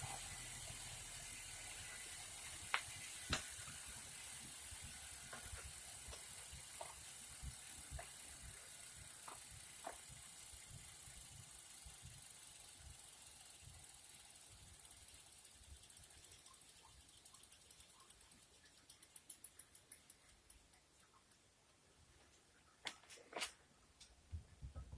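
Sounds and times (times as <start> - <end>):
bike trainer rumble: 0.0 - 21.2
freewheel pawls ticking: 0.0 - 21.5.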